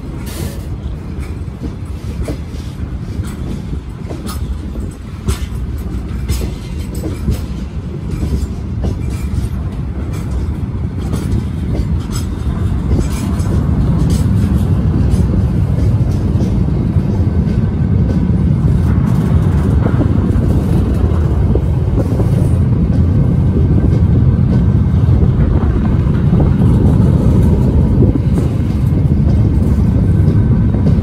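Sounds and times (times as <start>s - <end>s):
low rumble of freight wagons: 0.0s - 31.0s
train wheels clacking over rail joints: 0.0s - 31.0s.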